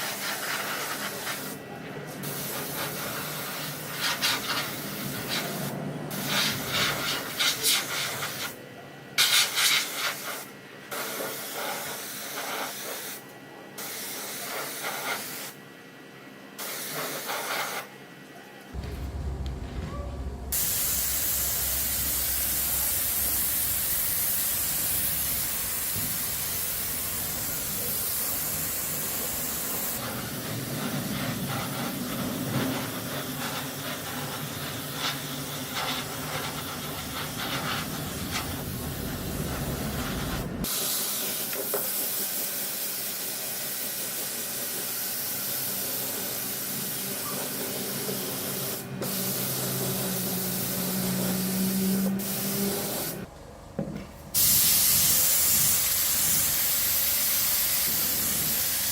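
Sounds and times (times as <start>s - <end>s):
spraying hiss: 0.0s - 8.5s, 9.2s - 13.2s, 18.8s - 53.3s, 54.3s - 58.9s.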